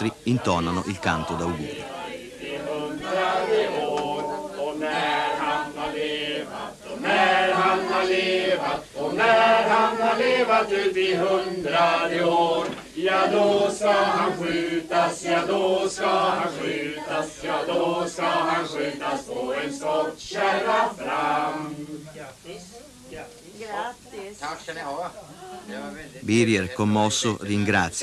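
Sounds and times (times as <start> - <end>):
group singing birthday song: 0.0 - 24.4.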